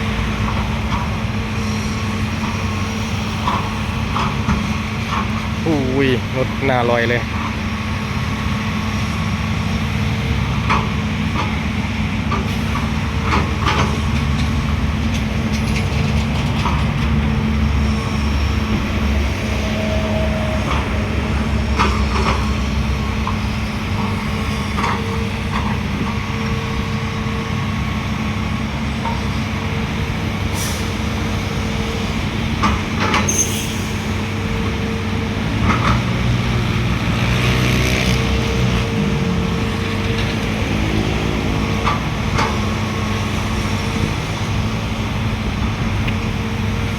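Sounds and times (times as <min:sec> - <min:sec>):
heavy diesel engines running: 0:00.0 - 0:46.9.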